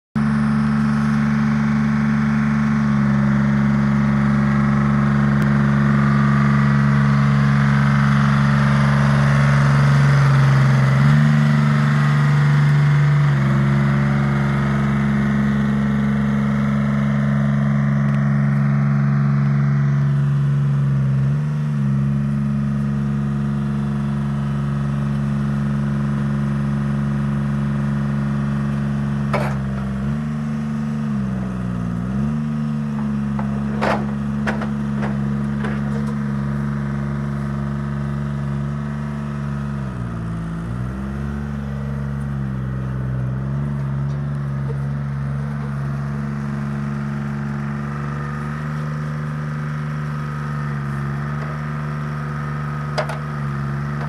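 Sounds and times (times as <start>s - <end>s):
diesel engine running: 0.2s - 54.0s.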